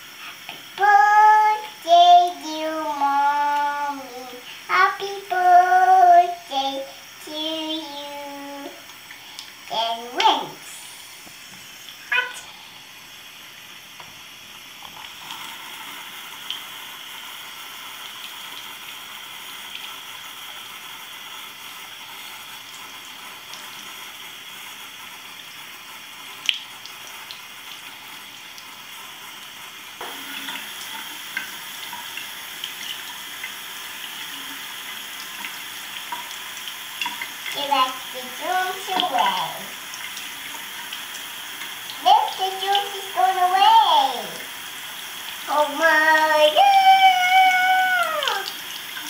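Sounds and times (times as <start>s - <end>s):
faucet water splashing: 0.0s - 49.0s.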